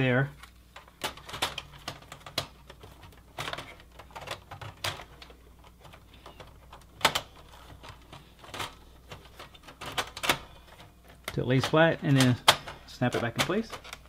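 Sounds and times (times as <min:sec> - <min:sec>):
plastic and metal clicks and knocks: 0:00.4 - 0:14.0.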